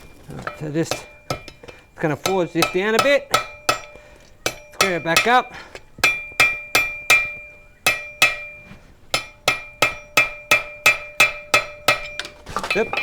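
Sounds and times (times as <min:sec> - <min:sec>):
anvil ringing: 0:00.0 - 0:13.0
hammer striking steel on anvil: 0:00.0 - 0:13.0.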